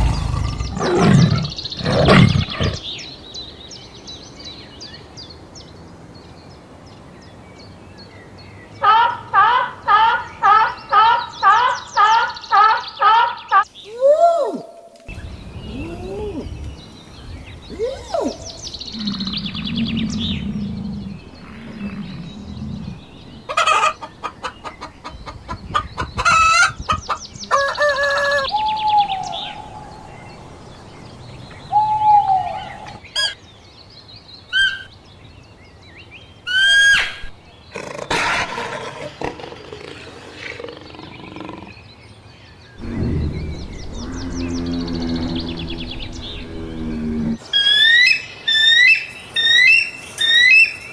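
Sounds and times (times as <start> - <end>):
birds calling: 0.0 - 5.1, 8.8 - 33.6, 34.3 - 35.1, 36.3 - 50.9.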